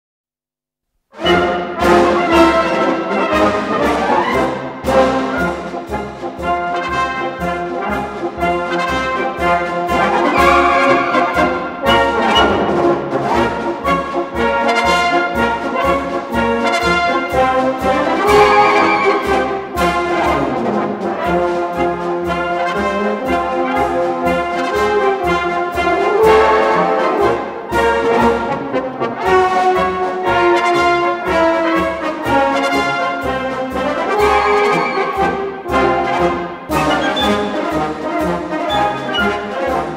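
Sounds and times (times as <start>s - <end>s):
military band playing march: 1.2s - 39.9s.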